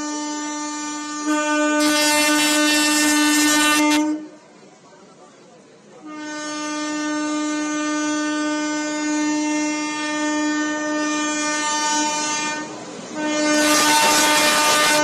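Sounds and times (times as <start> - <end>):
train horn blast: 0.0 - 4.4, 6.0 - 15.0
passing locomotive rushing: 0.0 - 15.0.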